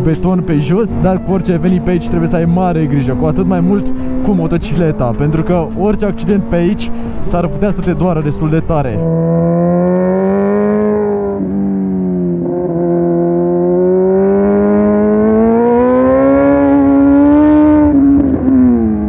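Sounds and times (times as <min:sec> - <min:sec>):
motorcycle engine pulling: 0:00.1 - 0:18.9.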